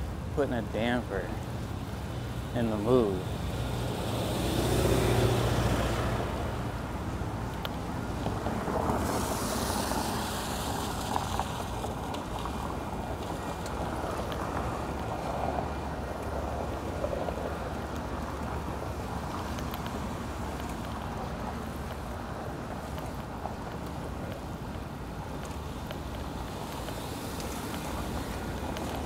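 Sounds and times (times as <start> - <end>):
traffic on wet streets: 0.0 - 29.0
tyres hissing on wet road: 0.0 - 29.0.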